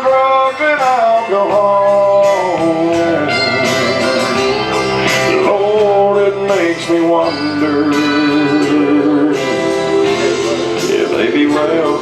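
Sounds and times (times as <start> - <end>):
man singing gospel song: 0.0 - 12.0
instrumental accompaniment: 0.5 - 12.0.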